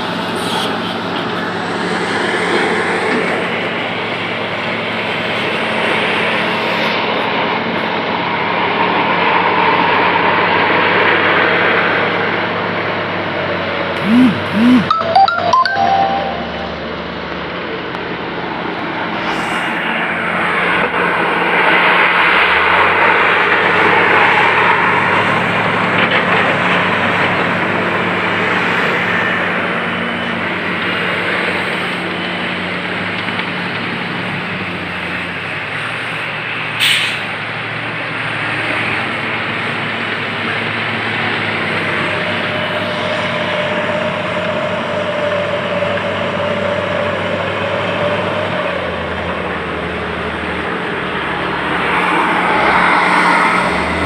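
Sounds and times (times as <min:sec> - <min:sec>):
loud mechanical noise: 0:00.0 - 0:14.9, 0:16.8 - 0:54.0
diesel engine drone: 0:00.0 - 0:54.0.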